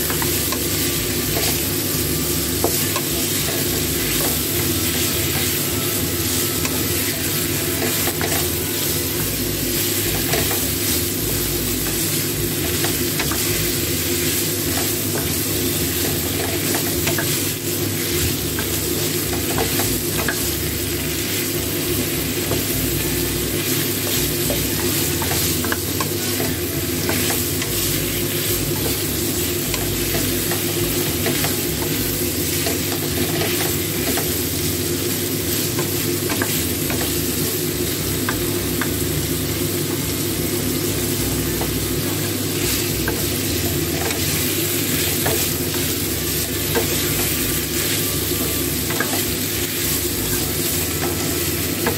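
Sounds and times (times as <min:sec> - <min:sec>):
meat sizzling in oil: 0:00.0 - 0:51.9.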